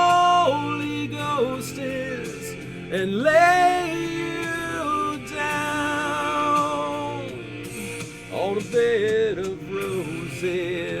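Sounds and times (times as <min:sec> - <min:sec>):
instrumental backing: 0:00.0 - 0:11.0
man singing: 0:00.0 - 0:11.0.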